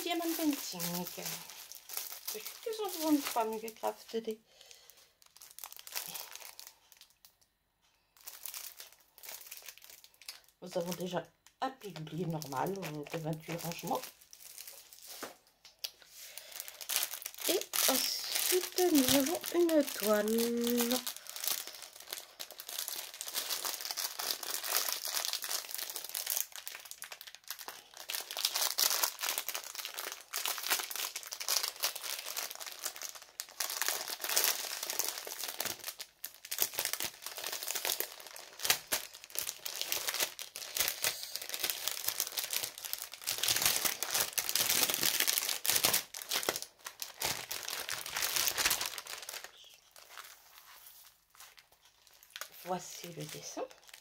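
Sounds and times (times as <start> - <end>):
plastic packaging crinkling: 0.0 - 54.0.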